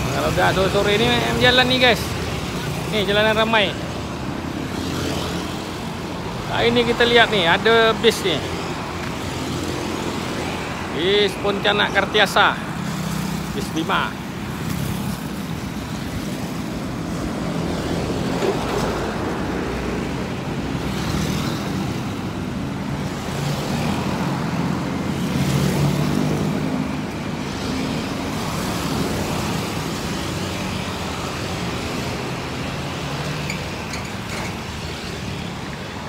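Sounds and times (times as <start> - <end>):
cars driving by: 0.0 - 36.0
motorcycles passing: 0.0 - 36.0.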